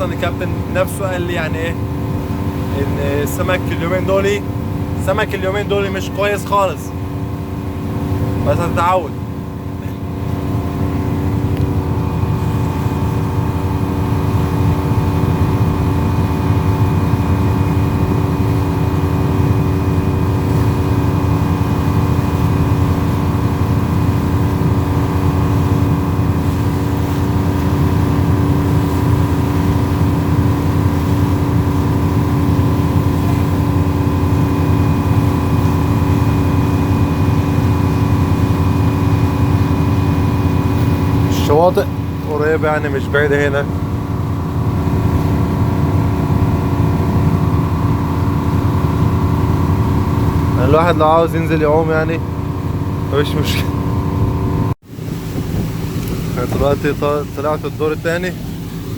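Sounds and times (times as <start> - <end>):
boat engine droning: 0.0 - 58.9.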